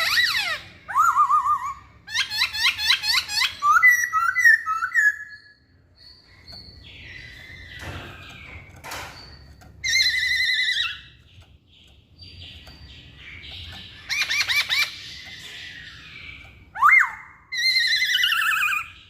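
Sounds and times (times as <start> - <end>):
bird whistling and warbling: 0.0 - 11.4, 12.3 - 19.0.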